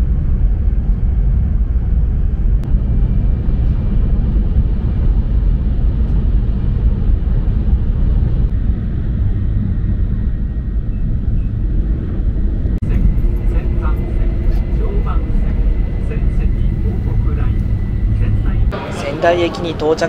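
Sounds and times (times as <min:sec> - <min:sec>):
train rumble inside cabin: 0:00.0 - 0:20.0.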